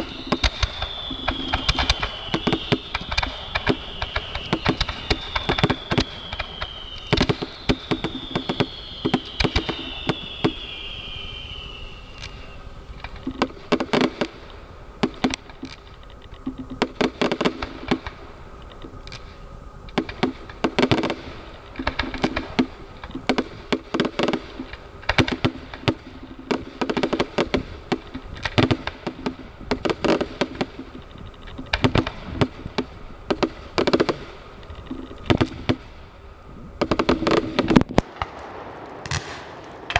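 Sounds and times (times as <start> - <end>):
firework whistles falling: 0.0 - 18.3, 20.0 - 39.9
firework cracks and bangs: 0.0 - 39.9.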